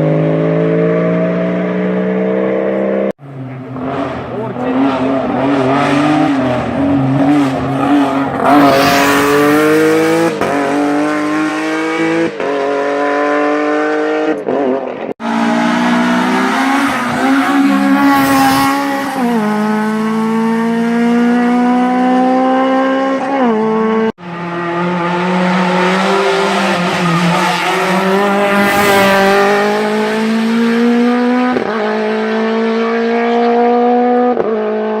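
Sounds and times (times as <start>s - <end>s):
race car engines at full throttle: 0.0s - 35.0s.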